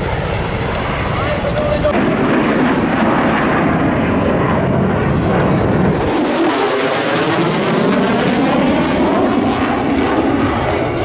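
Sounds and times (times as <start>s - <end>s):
jet engine rumble: 0.0s - 11.0s
sweeping jet tones: 0.0s - 11.0s.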